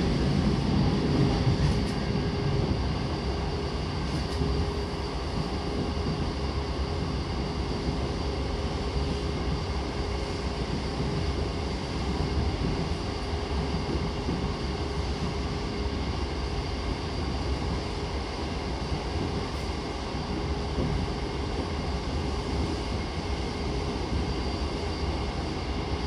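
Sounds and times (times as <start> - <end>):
constant electric hum: 0.0 - 26.0
train wheels rumbling on rail: 0.0 - 26.0.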